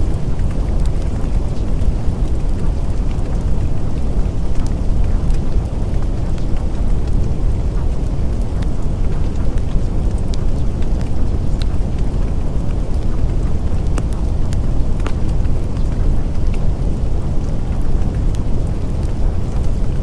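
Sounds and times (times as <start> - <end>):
dense low rumbling noise: 0.0 - 20.0.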